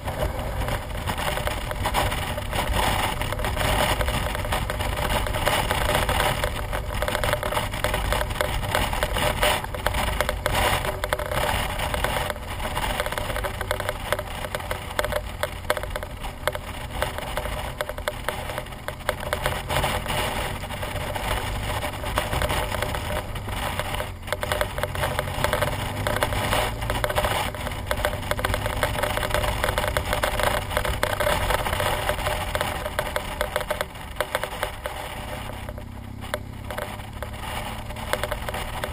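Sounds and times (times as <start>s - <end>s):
motorcycle engine rumble: 0.0s - 38.9s
road noise: 0.0s - 38.9s.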